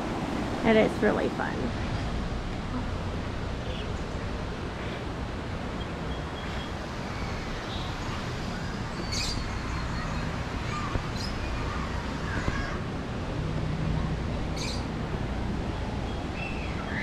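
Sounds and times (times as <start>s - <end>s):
low rumble of wind on microphone: 0.0s - 17.0s.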